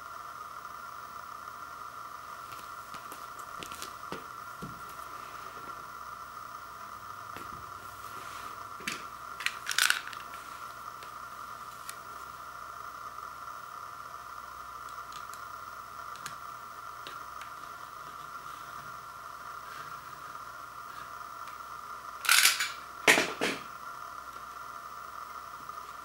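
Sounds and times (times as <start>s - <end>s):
high background hiss: 0.0s - 26.0s.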